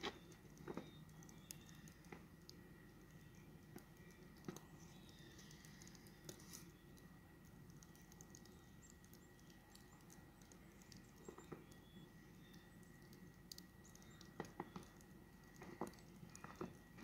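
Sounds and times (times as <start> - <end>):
soft ticks and clicks: 0.0 - 17.0.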